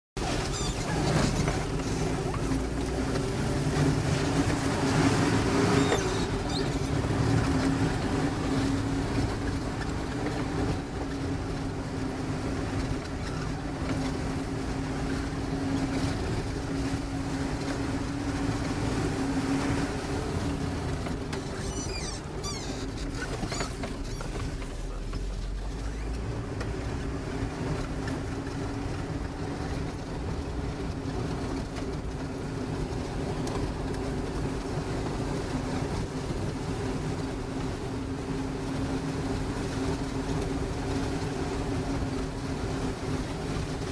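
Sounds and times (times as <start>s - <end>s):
off-road vehicle engine running: 0.2s - 43.9s.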